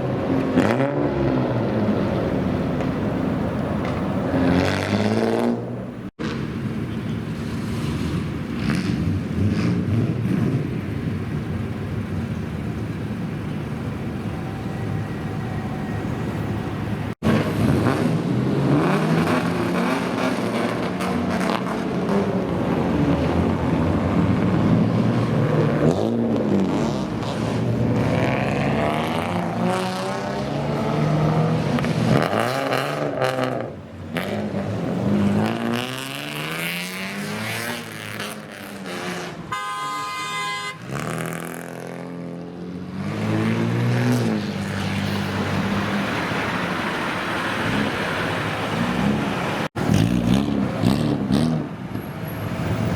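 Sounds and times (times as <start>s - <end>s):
car engines revving: 0.0s - 52.9s.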